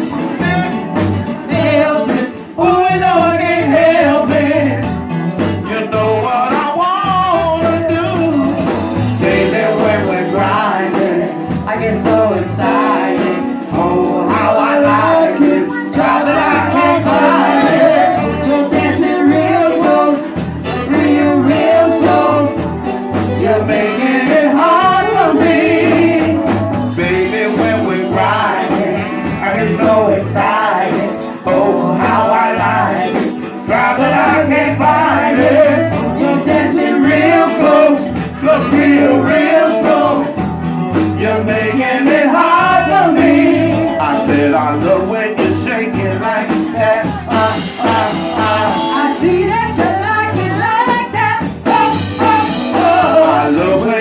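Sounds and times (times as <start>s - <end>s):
live band playing: 0.0s - 54.0s
person singing: 0.0s - 54.0s.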